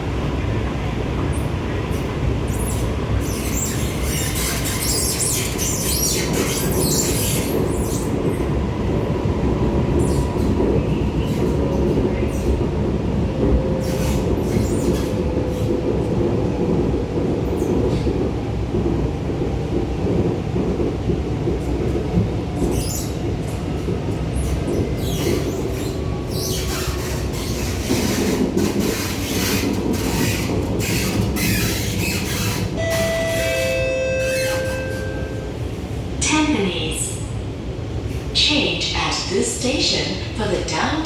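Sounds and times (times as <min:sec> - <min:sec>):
metro train rumbling: 0:00.0 - 0:41.0.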